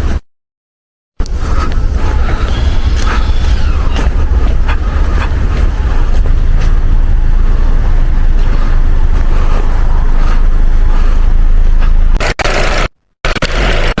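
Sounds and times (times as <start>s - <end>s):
car engine rumble: 1.2s - 12.8s
road noise: 1.2s - 14.0s.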